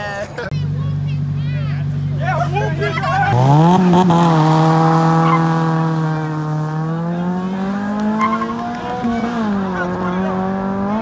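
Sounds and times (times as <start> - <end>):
car engine revving: 0.6 - 11.0.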